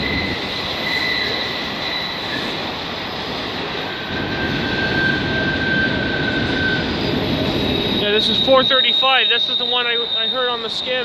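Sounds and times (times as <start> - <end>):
high wheel squeal: 0.0 - 2.6, 3.9 - 11.0
train wheels rumbling on rail: 0.0 - 11.0.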